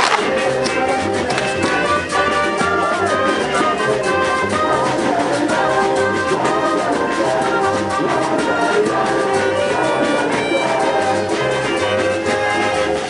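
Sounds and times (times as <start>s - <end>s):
steady drum beat: 0.0s - 13.0s
trumpets and trombones: 0.0s - 13.0s.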